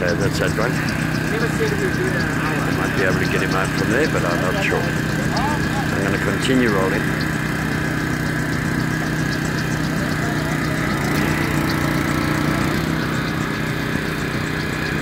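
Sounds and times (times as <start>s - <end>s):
small petrol engine running: 0.0s - 15.0s.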